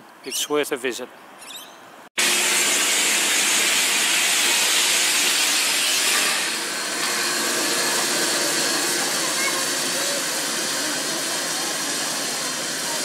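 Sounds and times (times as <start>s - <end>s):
steam locomotive hissing: 2.2s - 13.0s.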